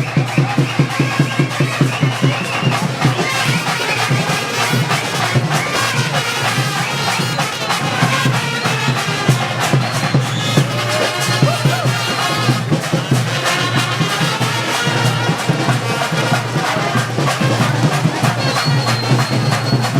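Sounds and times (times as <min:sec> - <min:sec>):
shrill wind instruments melody: 0:00.0 - 0:19.9
steady drumming: 0:00.0 - 0:19.9.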